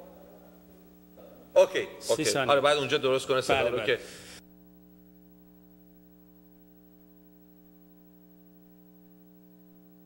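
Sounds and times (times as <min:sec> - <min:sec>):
faint electrical mains hum: 0:00.0 - 0:10.0.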